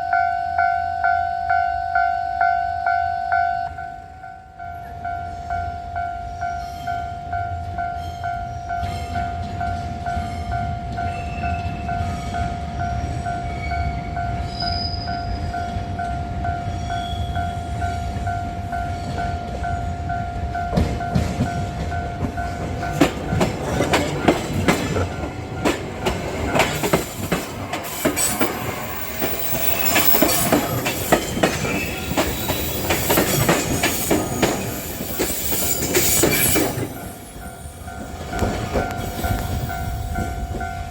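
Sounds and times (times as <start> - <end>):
level crossing warning bell: 0.0 - 40.9
train wheels clacking and squealing: 4.8 - 40.9.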